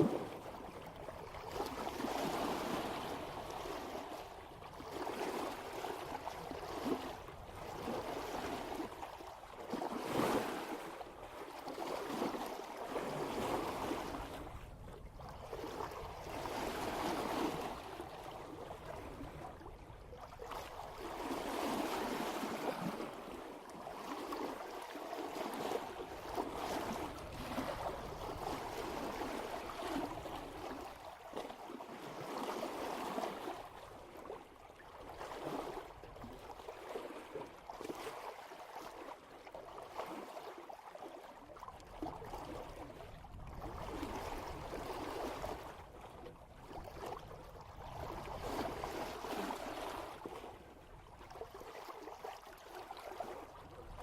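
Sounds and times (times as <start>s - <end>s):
water splashing along a boat hull: 0.0s - 54.0s.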